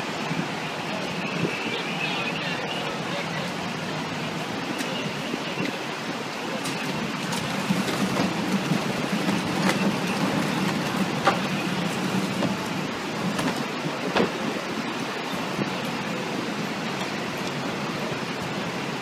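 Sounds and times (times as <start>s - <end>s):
city street noise: 0.0s - 19.0s
low engine hum: 0.0s - 19.0s.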